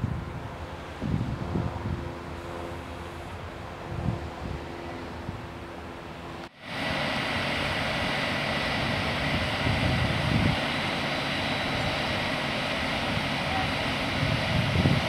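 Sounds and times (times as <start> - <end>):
jet engine running: 0.0 - 15.0.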